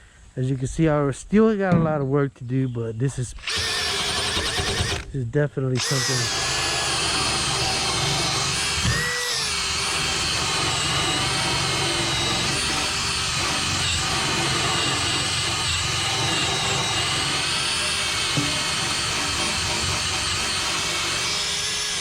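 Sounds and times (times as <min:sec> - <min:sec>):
power drill whine: 0:03.4 - 0:05.1, 0:05.8 - 0:22.0.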